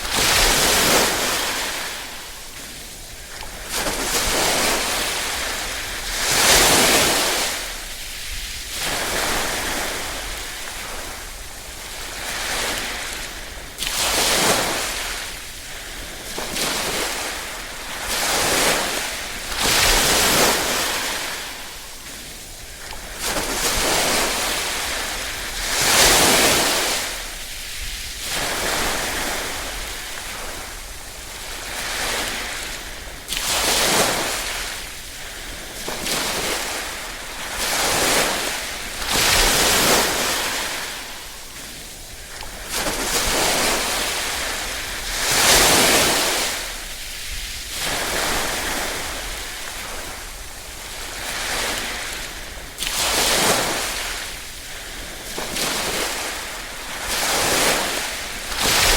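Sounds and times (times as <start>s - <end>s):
small waves washing onto shore: 0.0s - 58.9s.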